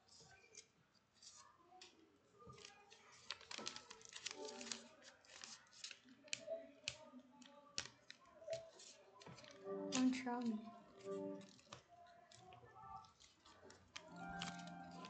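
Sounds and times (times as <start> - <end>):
paper rustling: 0.1 - 7.1, 7.8 - 15.0
paper crackling: 0.5 - 15.0.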